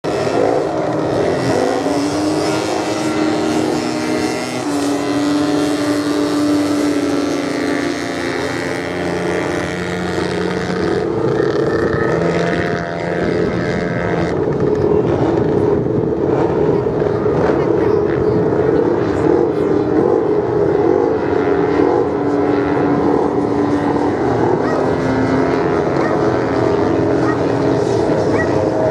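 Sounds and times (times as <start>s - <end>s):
motorcycle engines revving: 0.0s - 28.9s.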